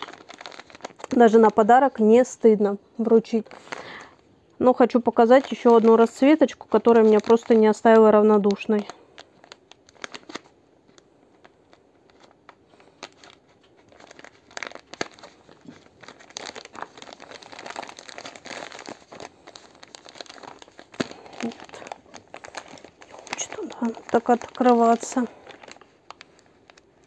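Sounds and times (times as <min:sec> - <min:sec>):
yarn packet crinkling: 0:00.0 - 0:02.4, 0:03.0 - 0:27.0.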